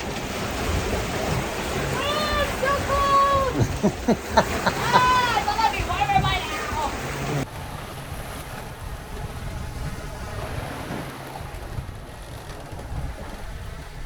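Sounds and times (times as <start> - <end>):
water rushing along hulls: 0.0 - 14.0
wind buffeting microphone: 0.0 - 14.0.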